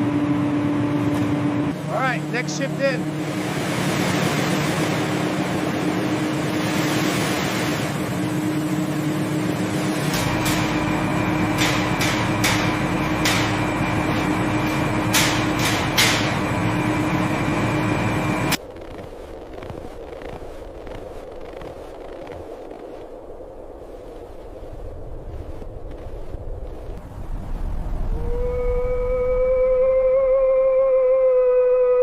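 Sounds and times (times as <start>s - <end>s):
steady machine hum: 0.0s - 27.2s
deep rumble: 0.0s - 31.5s.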